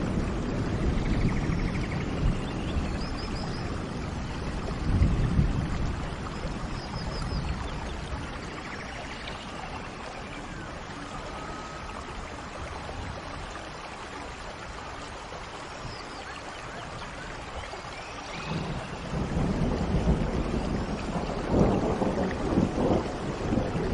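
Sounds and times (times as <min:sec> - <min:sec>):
heavy rain hissing: 0:00.0 - 0:23.9.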